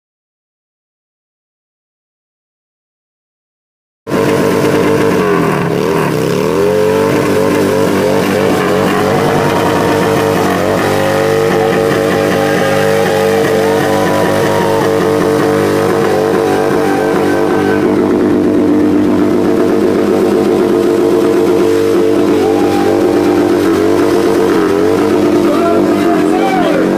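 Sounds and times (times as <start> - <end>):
motorcycle engine revving high: 4.1 - 26.9.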